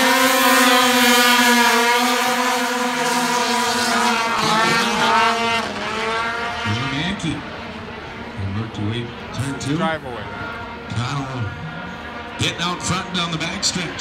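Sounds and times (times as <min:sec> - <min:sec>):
snowmobile engines accelerating: 0:00.0 - 0:14.0.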